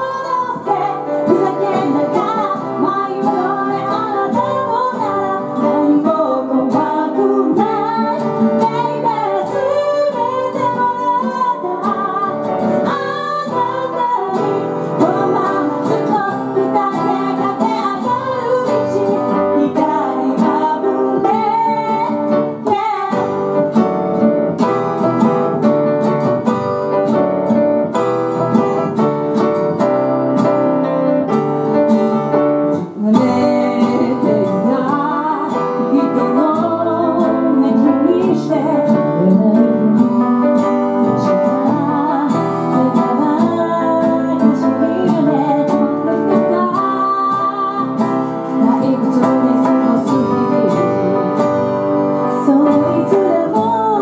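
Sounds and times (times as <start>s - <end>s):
woman singing: 0.0s - 24.6s, 32.7s - 54.0s
acoustic guitar: 0.0s - 54.0s
grand piano: 0.0s - 54.0s.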